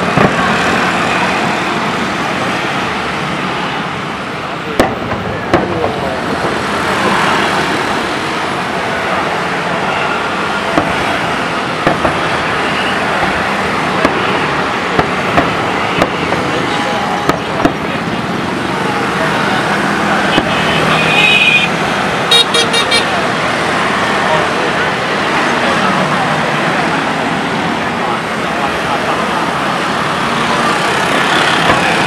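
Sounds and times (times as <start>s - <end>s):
fireworks banging: 0.0s - 2.6s, 4.6s - 32.0s
crowd chatter: 0.0s - 32.0s.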